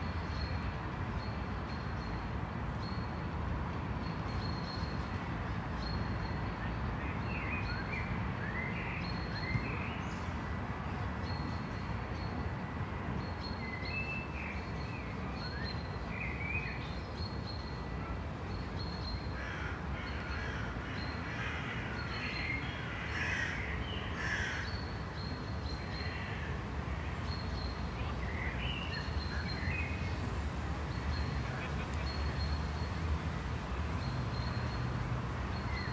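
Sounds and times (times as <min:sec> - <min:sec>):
distant traffic rumble: 0:00.0 - 0:35.9.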